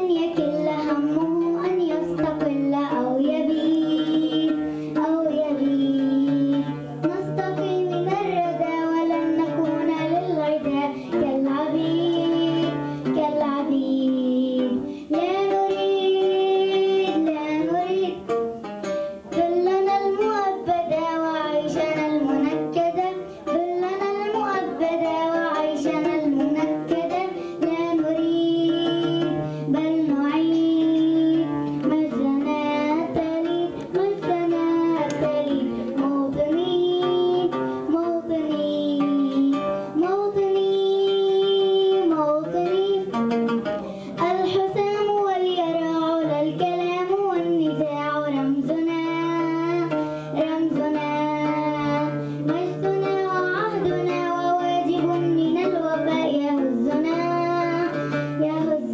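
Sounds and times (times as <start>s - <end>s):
girl singing into microphone: 0.0s - 58.9s
instrumental accompaniment: 0.0s - 58.9s.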